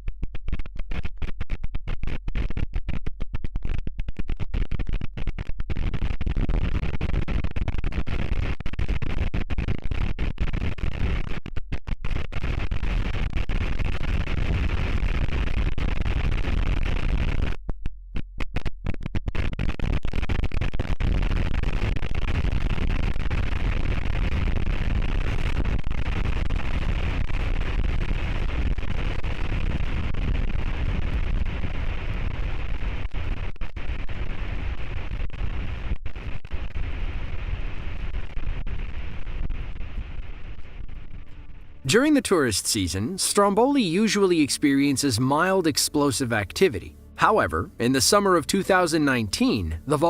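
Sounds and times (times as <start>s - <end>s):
distorted volcano rumble and roar: 0.0s - 17.6s, 18.4s - 41.9s.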